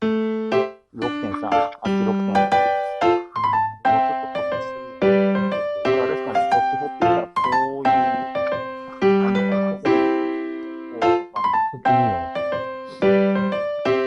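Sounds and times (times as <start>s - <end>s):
piano-like keyboard chords: 0.0s - 14.0s.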